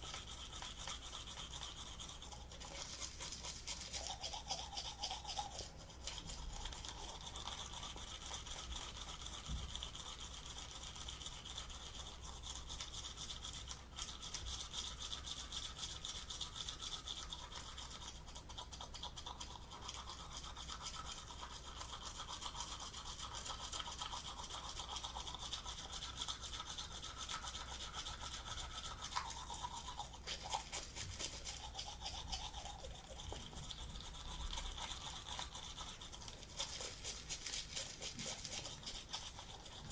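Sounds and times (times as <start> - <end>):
toothbrush scrubbing teeth: 0.0 - 39.9.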